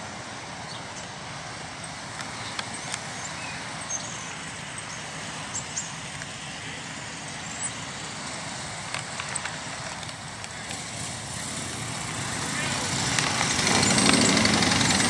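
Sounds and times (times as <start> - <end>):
distant motorcycles idling: 1.0 - 15.0.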